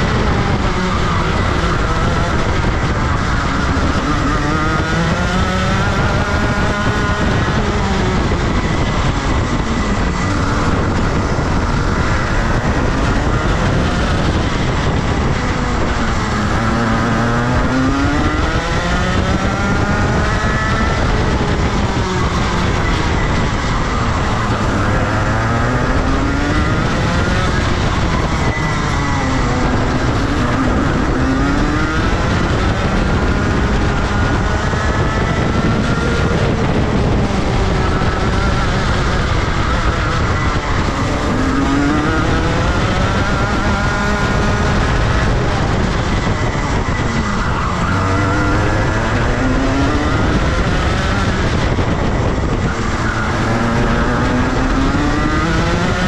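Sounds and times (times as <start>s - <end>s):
kart engine running hard: 0.0s - 56.0s.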